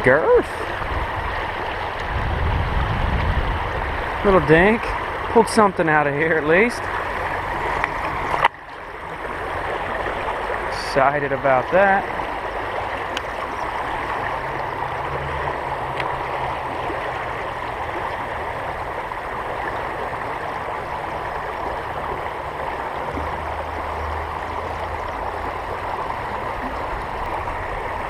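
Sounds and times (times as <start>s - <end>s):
creek water rushing over rocks: 0.0s - 28.0s.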